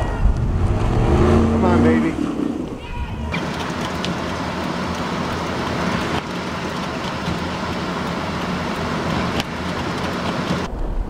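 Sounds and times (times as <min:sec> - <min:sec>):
blizzard wind and blowing snow: 0:00.0 - 0:11.0
pickup truck engine running: 0:00.3 - 0:10.7.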